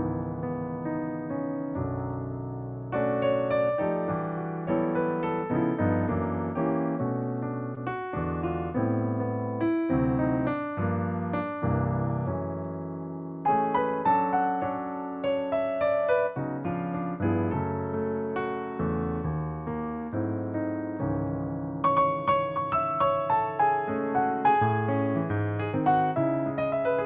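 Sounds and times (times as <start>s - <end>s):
solo piano chords and melody: 0.0s - 27.0s.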